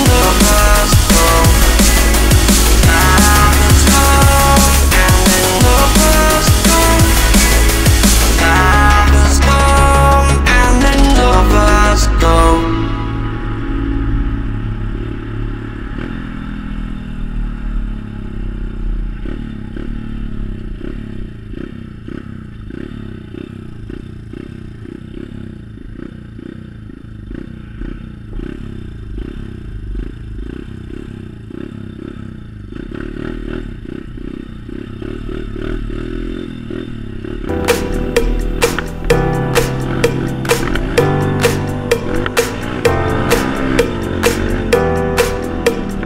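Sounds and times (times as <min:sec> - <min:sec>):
motorbike engine running: 0:00.0 - 0:46.0.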